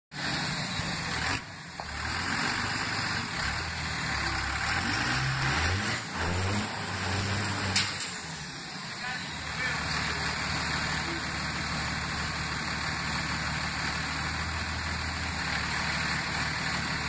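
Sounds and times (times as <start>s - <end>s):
diesel truck engine under load: 0.1s - 17.0s.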